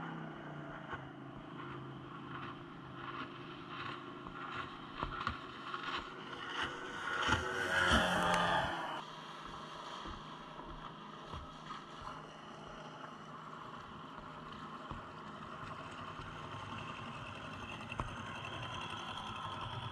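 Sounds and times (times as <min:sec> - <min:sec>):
outboard motor running: 0:00.0 - 0:19.9.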